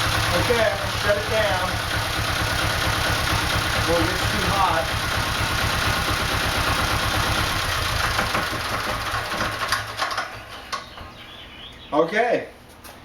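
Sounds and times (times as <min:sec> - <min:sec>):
diesel engine idling and stopping: 0:00.0 - 0:11.7.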